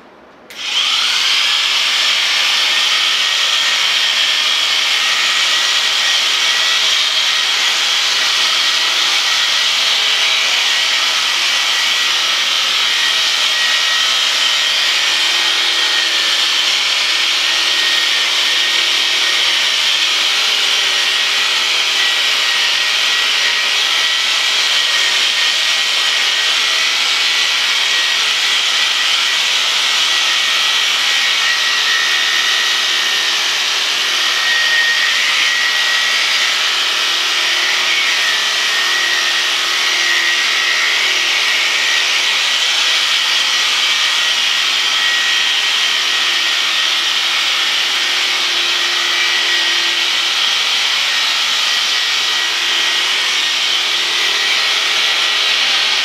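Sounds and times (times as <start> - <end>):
electric shears whining: 0.5 - 56.0.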